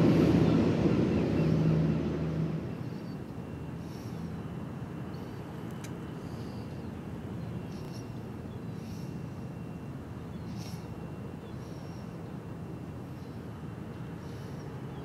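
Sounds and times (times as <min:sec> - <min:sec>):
low harbour rumble: 0:00.0 - 0:15.0
small birds chirping: 0:02.7 - 0:15.0.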